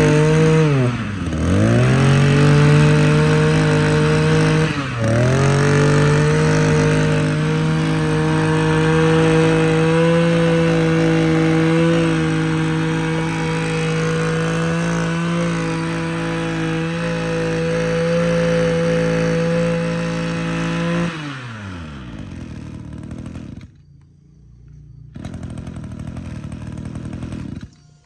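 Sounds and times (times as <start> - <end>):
brush cutter engine revving: 0.0 - 23.8, 25.1 - 27.8.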